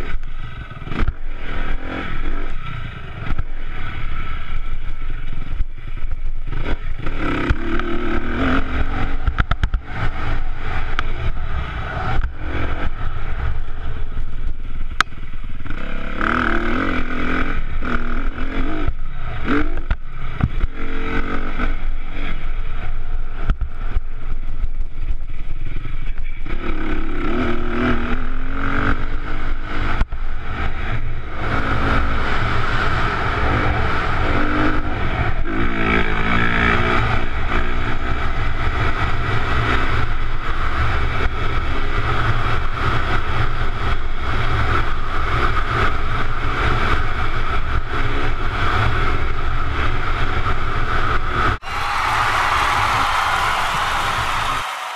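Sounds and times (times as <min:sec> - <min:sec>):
dirt bike engine revving: 0:00.0 - 0:14.2, 0:15.2 - 0:24.4, 0:26.5 - 0:54.9.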